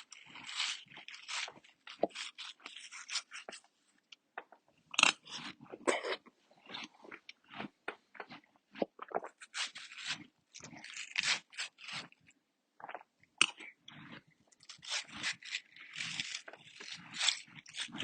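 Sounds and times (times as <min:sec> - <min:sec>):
watermelon crunching chewing: 0:00.0 - 0:18.0.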